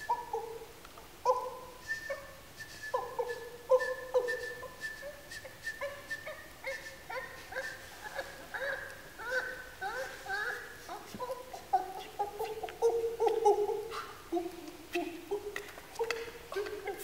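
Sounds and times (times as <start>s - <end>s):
men vocalising animal-like calls: 2.9s - 17.0s.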